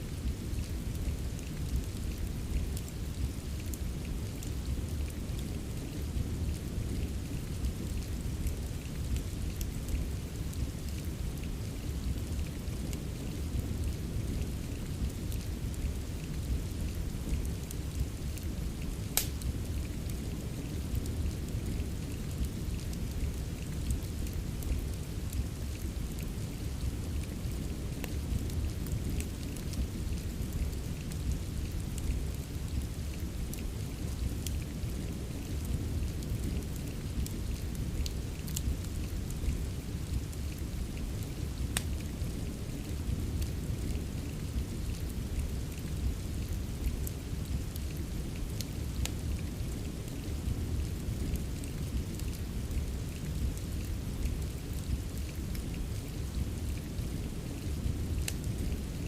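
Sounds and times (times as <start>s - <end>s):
steady rain: 0.0s - 59.0s
wood fire crackling: 0.0s - 59.0s.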